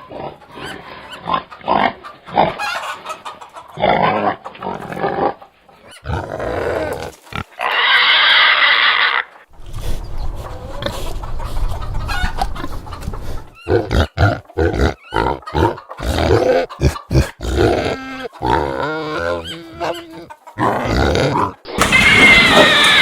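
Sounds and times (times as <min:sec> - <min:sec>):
pigs grunting: 0:00.0 - 0:02.8, 0:03.7 - 0:11.6, 0:12.6 - 0:23.0
pigs squealing: 0:00.0 - 0:09.5, 0:10.4 - 0:23.0.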